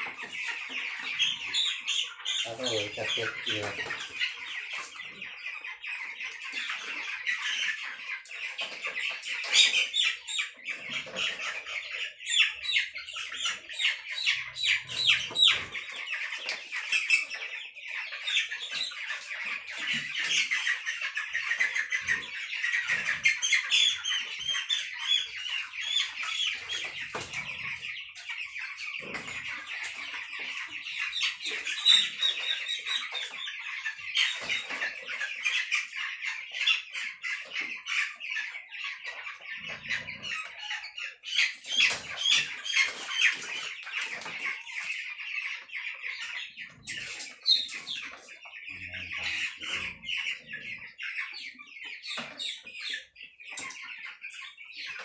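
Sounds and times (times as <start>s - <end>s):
chickens squawking: 0.0s - 55.0s
chicks peeping and chirping: 0.0s - 55.0s.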